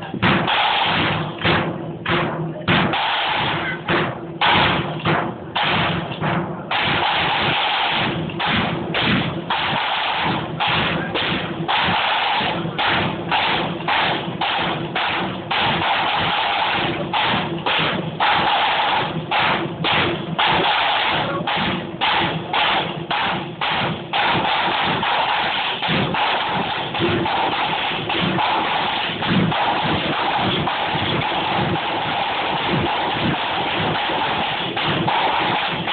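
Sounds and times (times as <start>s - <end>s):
bass drum beat: 0.0s - 35.9s
snare drums rolling: 0.0s - 35.9s.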